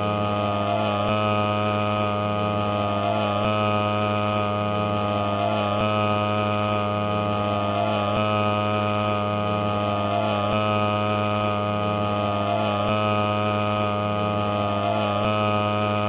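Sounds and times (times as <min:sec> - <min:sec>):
loud buzzing drone: 0:00.0 - 0:16.0.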